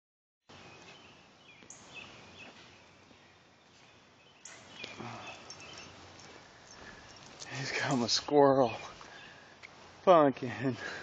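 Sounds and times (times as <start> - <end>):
high bird chirps: 0.5 - 9.4
outdoor background noise: 0.5 - 11.0.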